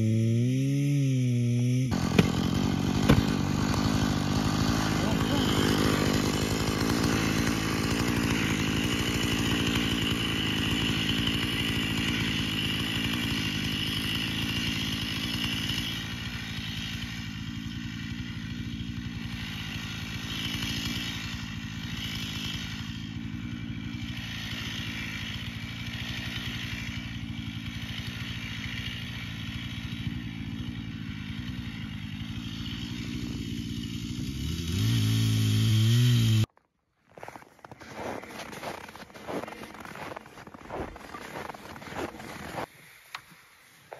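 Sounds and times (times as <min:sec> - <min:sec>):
chainsaw idling and revving: 0:00.0 - 0:36.6, 0:37.2 - 0:43.3.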